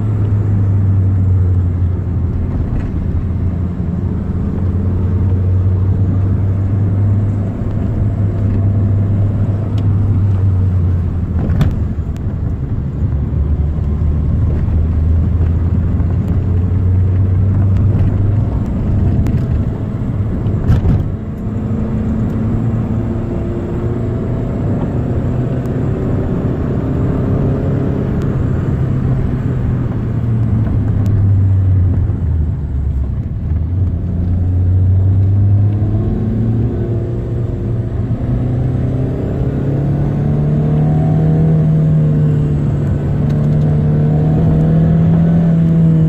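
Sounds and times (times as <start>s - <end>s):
car engine from inside cabin: 0.0s - 46.0s.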